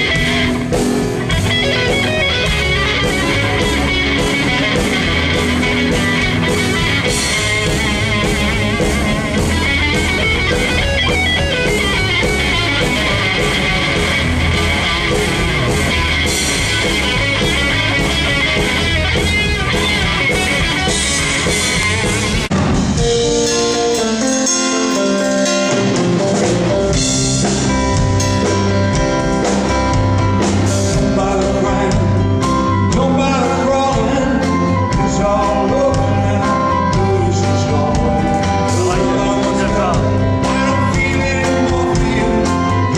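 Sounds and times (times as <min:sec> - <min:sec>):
bass: 0:00.0 - 0:42.9
drums: 0:00.0 - 0:42.9
electric guitar: 0:00.0 - 0:42.9.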